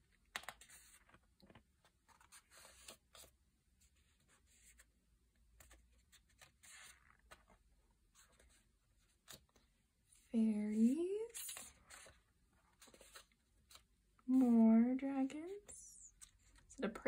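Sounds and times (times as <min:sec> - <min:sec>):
paper pages rustling: 0:00.1 - 0:04.9, 0:05.5 - 0:09.8, 0:10.7 - 0:14.6, 0:15.5 - 0:17.0.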